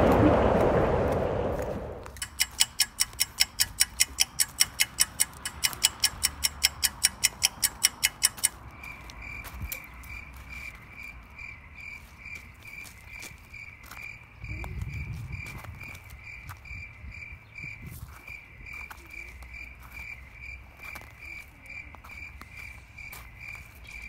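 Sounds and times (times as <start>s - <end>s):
insect fast ticking: 2.1s - 24.0s
insect pulsing high chirp: 2.2s - 24.0s.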